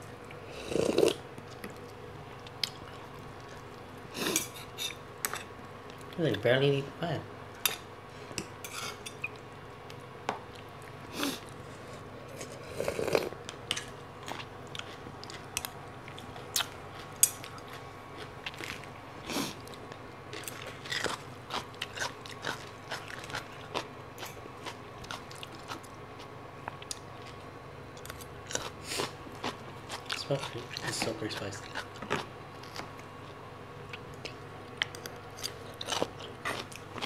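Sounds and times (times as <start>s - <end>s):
chewing crunchy salad: 0.1s - 6.4s, 8.6s - 37.0s.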